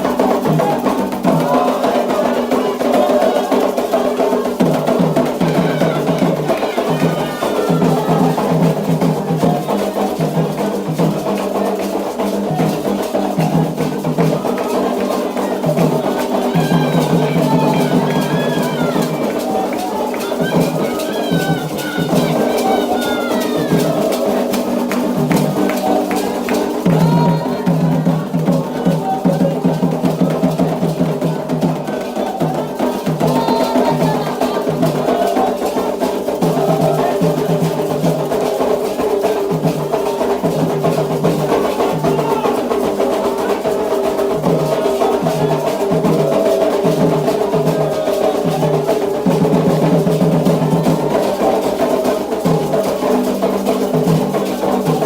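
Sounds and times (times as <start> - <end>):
fast hand-drum playing: 0.0 - 55.0
sharp clicking percussion: 0.0 - 55.0.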